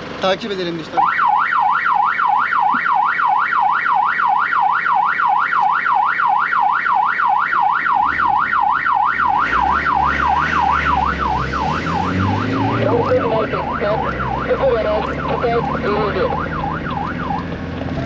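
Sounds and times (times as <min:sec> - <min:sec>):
vehicle engine: 0:00.0 - 0:18.0
electronic siren warbling: 0:01.0 - 0:18.0.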